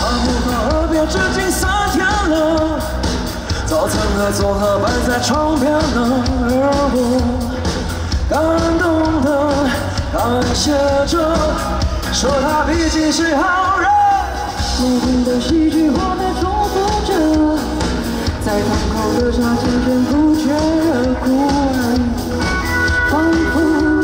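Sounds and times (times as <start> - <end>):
lead singer's voice: 0.0 - 24.0
live pop-rock band: 0.0 - 24.0.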